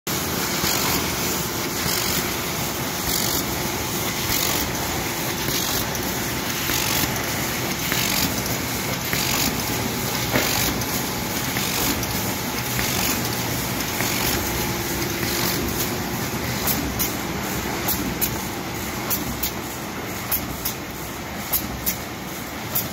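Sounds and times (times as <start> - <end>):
die-cutting machine clatter and hum: 0.1 - 22.9.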